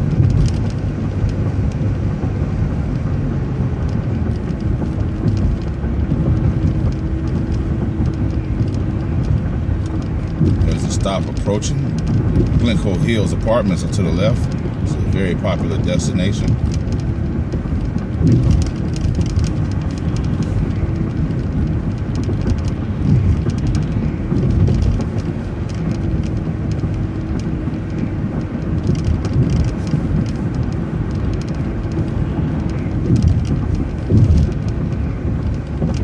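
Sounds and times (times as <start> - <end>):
low thumps: 0.0 - 15.6, 16.4 - 36.0
bus engine and road rumble: 0.0 - 36.0.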